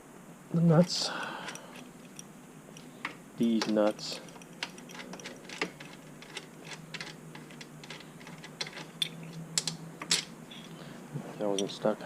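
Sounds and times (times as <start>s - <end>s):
wrench metallic clicks and clinks: 0.8s - 10.7s.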